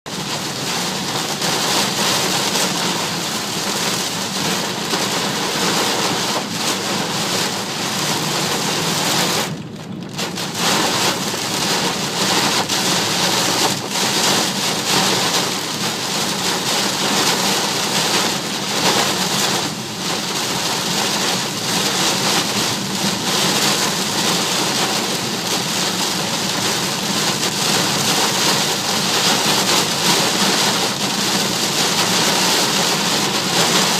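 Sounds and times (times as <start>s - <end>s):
heavy rain on a moving car: 0.1s - 33.9s.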